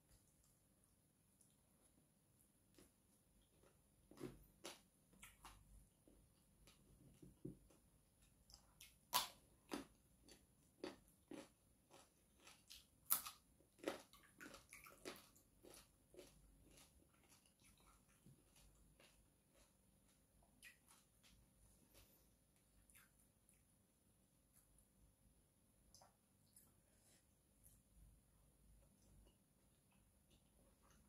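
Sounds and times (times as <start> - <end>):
chewing and crunching food: 0.0 - 25.1, 25.8 - 31.0.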